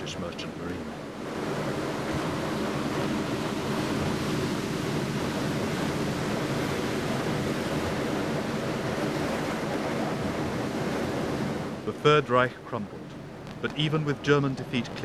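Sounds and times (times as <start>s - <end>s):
sea waves: 0.0s - 15.0s
wind: 0.0s - 15.0s.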